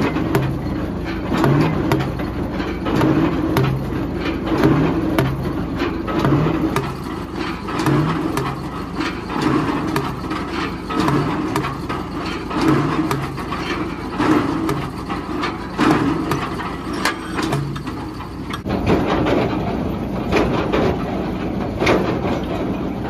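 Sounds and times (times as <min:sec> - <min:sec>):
heavy knocks of drill bit: 0:00.0 - 0:18.6
drilling rig engine running: 0:00.0 - 0:18.8.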